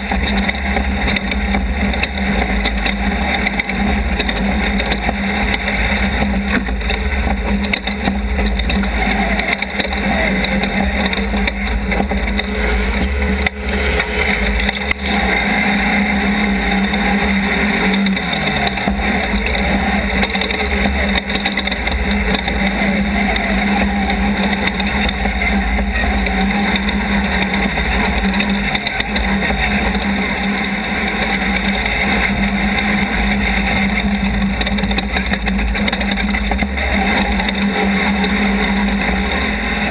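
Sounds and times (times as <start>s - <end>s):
race car engine drone: 0.0s - 39.9s.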